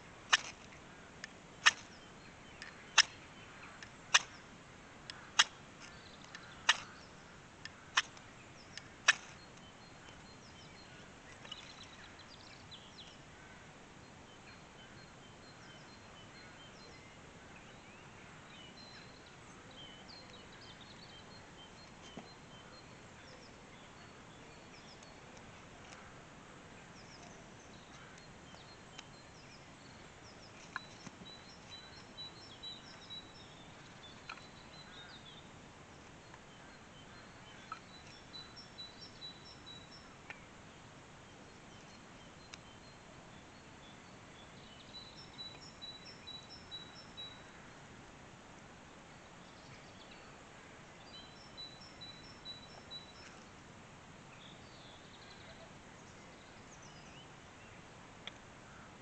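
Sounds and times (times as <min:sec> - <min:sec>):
faint bird chirps: 0:00.3 - 0:47.9, 0:49.1 - 0:53.6, 0:54.3 - 0:59.0.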